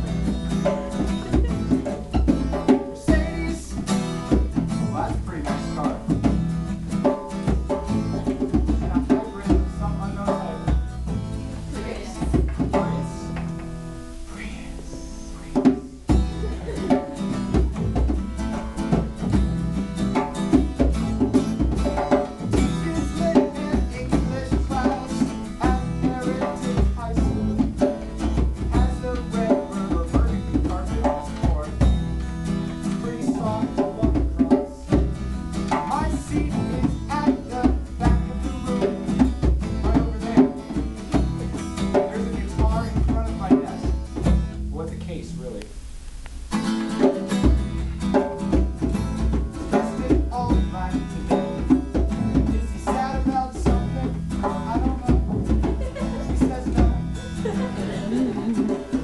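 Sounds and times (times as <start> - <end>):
djembe drum beating: 0.0 - 44.6, 46.6 - 59.0
plucked double bass: 0.0 - 59.0
strummed acoustic guitar: 0.0 - 59.0.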